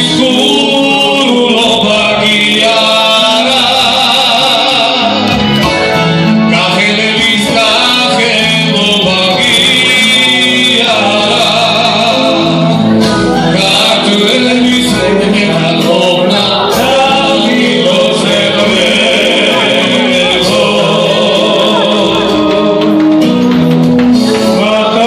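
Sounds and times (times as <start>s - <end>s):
electronic keyboard accompaniment: 0.0s - 25.0s
men singing into microphones: 0.0s - 25.0s.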